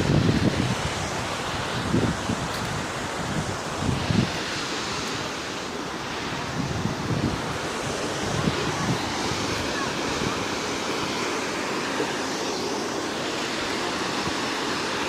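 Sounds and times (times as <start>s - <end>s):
waterfall roar: 0.0s - 15.0s
wind buffeting microphone: 0.0s - 15.0s.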